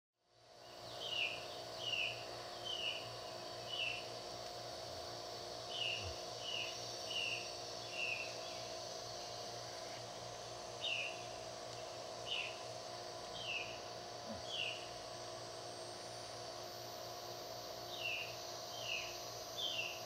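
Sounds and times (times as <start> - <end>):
steady background hiss and hum: 0.2 - 20.0.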